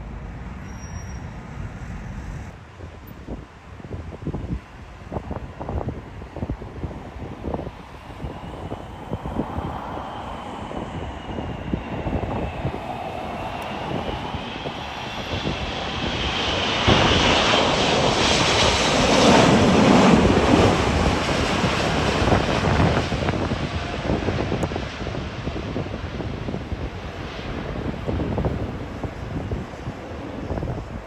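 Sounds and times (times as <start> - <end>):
jet airliner passing overhead: 0.0 - 31.0
wind buffeting microphone: 2.4 - 31.0.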